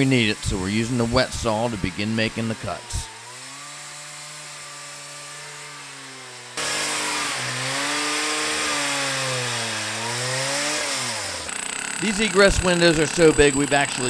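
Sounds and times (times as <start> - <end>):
cut-off saw engine running: 0.0 - 14.0
saw cutting concrete gritty hiss: 0.0 - 14.0.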